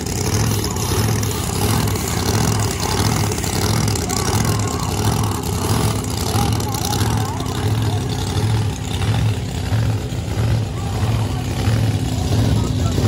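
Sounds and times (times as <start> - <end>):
race car engines idling: 0.0 - 13.0.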